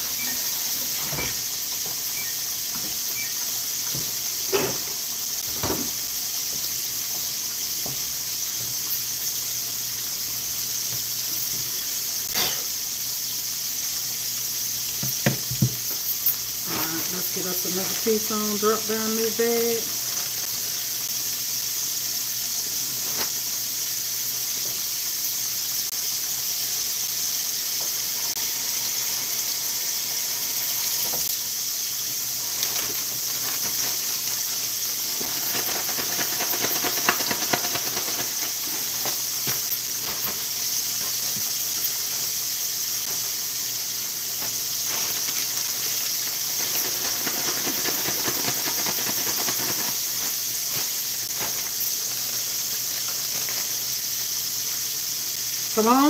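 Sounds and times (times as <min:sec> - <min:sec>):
fish deep-frying in oil: 0:00.0 - 0:56.0.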